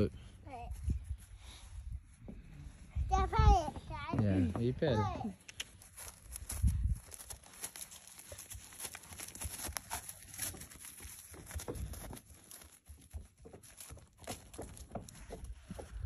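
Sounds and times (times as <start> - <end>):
hoofbeats on grass: 0.0 - 16.0.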